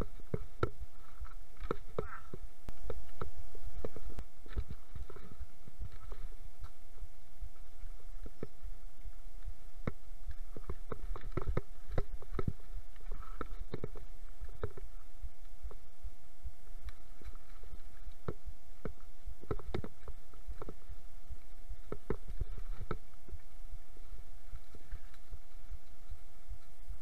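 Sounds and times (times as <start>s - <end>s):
faint steady whine: 0.0s - 27.0s.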